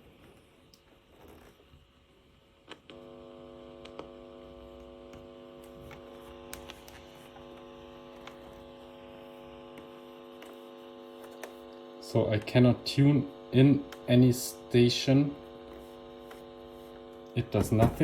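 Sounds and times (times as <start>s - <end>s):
radio speaker buzzing hum: 0.0s - 18.0s.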